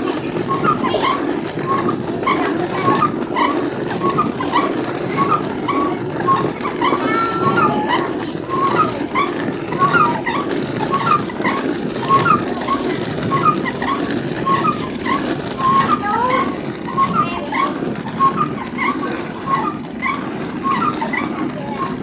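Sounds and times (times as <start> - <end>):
hand mill grinding rumble: 0.0 - 22.0.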